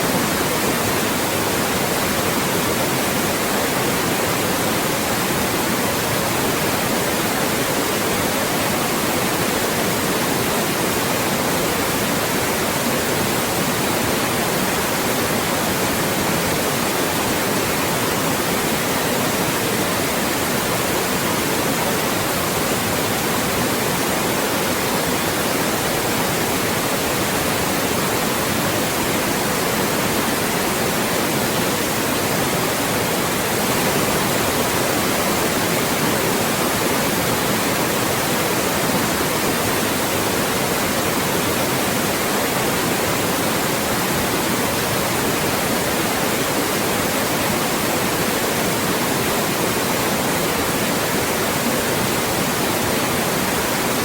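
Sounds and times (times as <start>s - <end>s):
loud steady white noise hiss: 0.0s - 54.0s.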